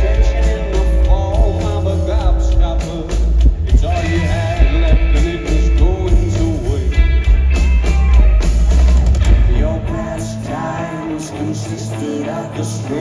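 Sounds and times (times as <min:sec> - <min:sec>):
drums: 0:00.0 - 0:10.9
bass guitar: 0:00.0 - 0:13.0
wavering electric guitar: 0:00.0 - 0:13.0.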